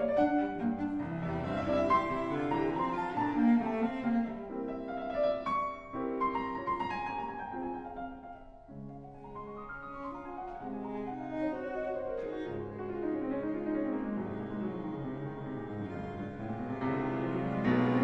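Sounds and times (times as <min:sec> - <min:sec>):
piano: 0:00.0 - 0:18.0.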